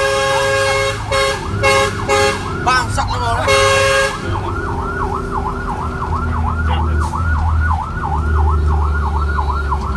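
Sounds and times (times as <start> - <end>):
vehicle siren yelping: 0.0 - 9.9.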